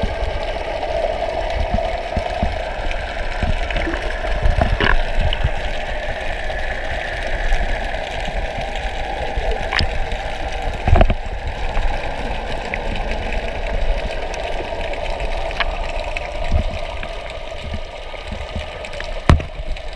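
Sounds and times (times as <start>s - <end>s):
muffled underwater hum: 0.0s - 19.9s.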